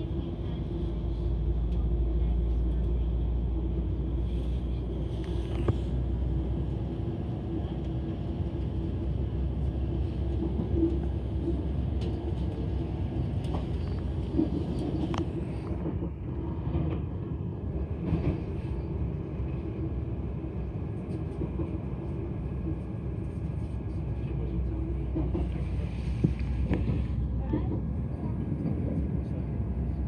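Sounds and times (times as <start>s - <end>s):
train running drone and rumble: 0.0s - 30.0s.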